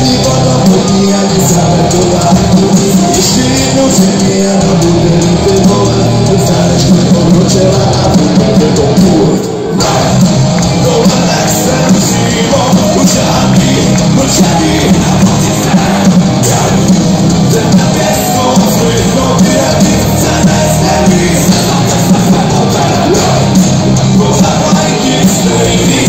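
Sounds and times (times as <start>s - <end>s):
heavy metal band playing live: 0.0s - 26.0s
person singing: 0.0s - 26.0s
pounding drum beat: 0.0s - 26.0s.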